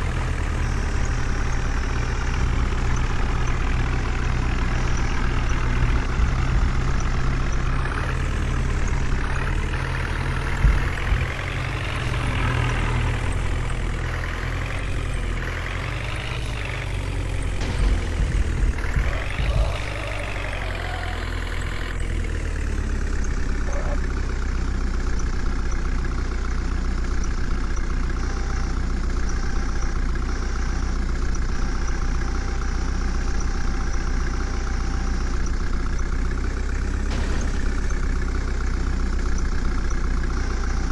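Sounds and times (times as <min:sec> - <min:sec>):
diesel engine working under load: 0:00.0 - 0:40.9.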